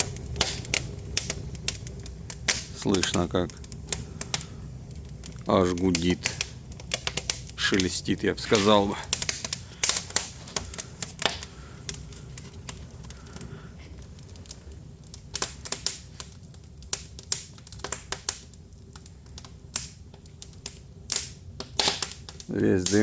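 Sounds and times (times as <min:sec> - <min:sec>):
chimney draft hum: 0:00.0 - 0:23.0
wood fire crackling: 0:00.0 - 0:23.0.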